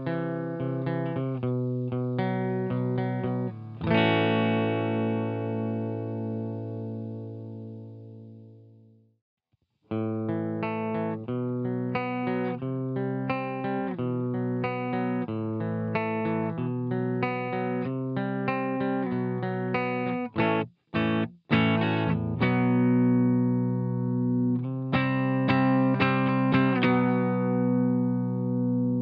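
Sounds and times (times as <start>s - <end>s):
compressed electric guitar: 0.0s - 8.9s, 9.9s - 29.0s.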